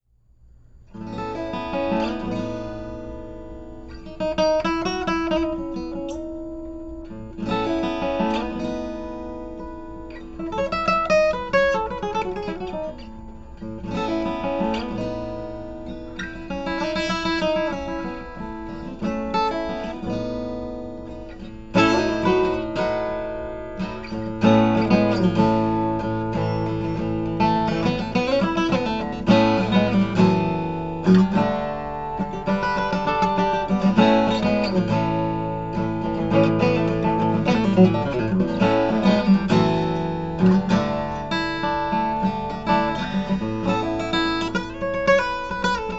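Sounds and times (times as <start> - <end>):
acoustic guitar playing: 0.7 - 45.9.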